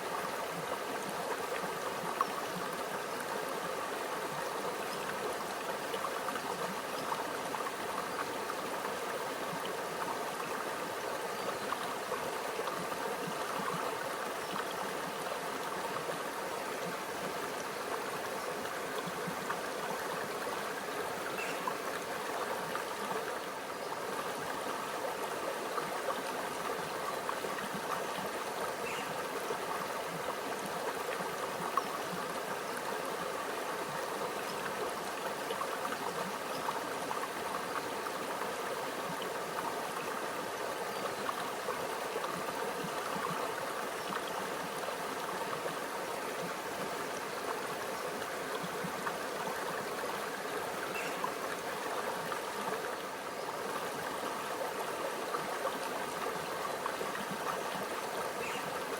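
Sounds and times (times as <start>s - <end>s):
stream gurgling over rocks: 0.0s - 58.9s.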